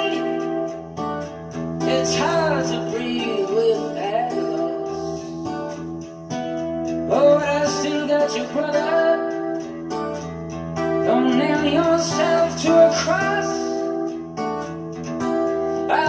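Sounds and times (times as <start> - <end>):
song with guitar and singing: 0.0 - 16.0.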